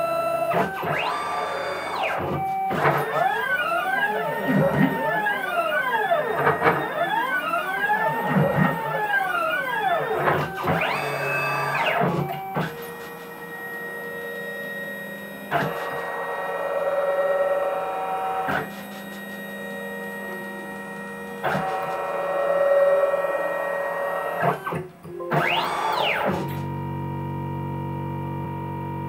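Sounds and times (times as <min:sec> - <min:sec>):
motors humming: 0:00.0 - 0:29.0
stepper motors whining: 0:00.0 - 0:29.0.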